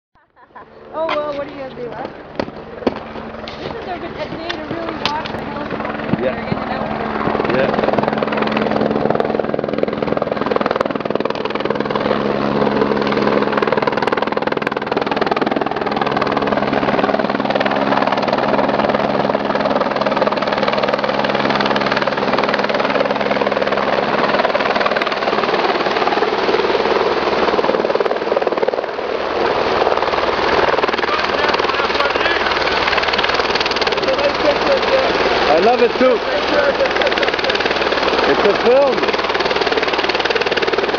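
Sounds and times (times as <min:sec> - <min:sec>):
helicopter rotor and turbine: 0:00.2 - 0:40.9.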